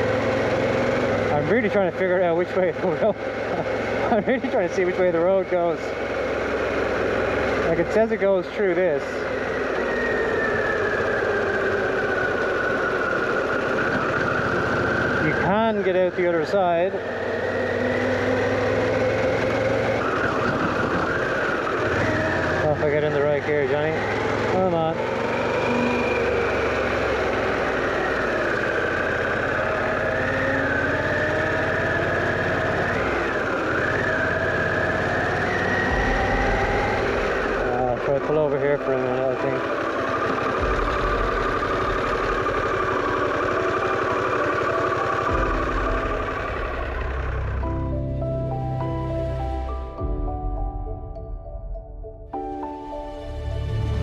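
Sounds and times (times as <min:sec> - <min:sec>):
motorcycle engine running: 0:00.0 - 0:50.4.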